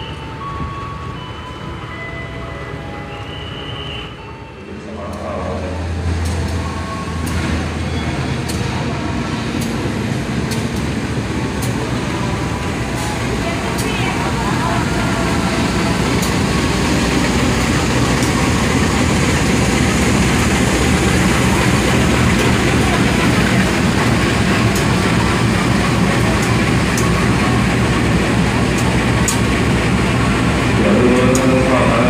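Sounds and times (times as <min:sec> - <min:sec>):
locomotive diesel engine rumbling: 0:00.0 - 0:32.0
faint ticks from moving train: 0:05.0 - 0:32.0.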